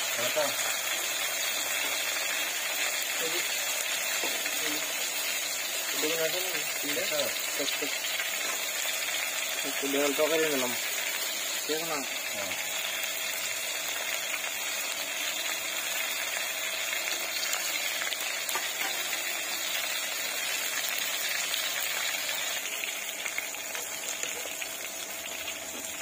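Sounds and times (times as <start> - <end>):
fish sizzling in oil: 0.0 - 26.0
oil crackling: 0.2 - 26.0.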